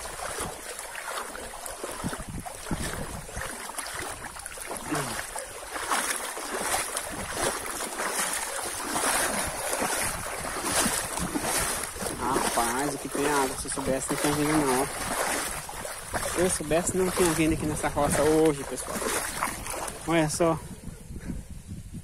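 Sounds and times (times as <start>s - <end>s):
dog paddling in water: 0.0s - 20.4s
legs wading through water: 0.0s - 20.6s.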